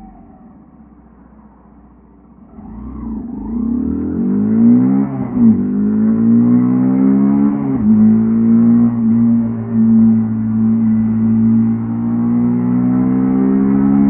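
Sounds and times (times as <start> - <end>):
motorcycle engine accelerating: 2.2 - 14.0.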